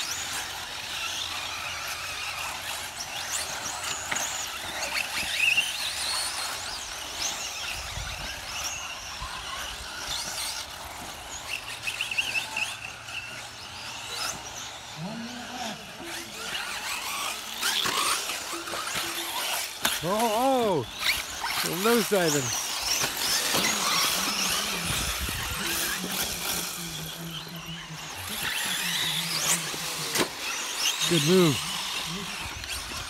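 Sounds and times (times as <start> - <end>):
electric rc car motors whining: 0.0 - 33.0.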